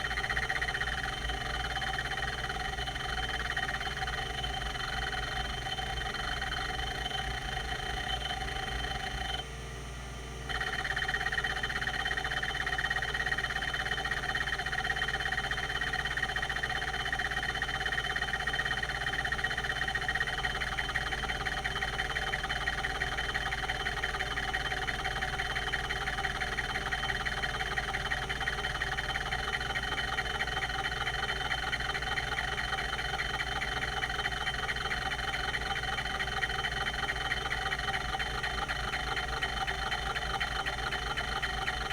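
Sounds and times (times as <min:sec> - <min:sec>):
hard drive head seeking chatter: 0:00.0 - 0:09.6, 0:10.4 - 0:41.9
hard drive spindle whine: 0:00.0 - 0:41.9.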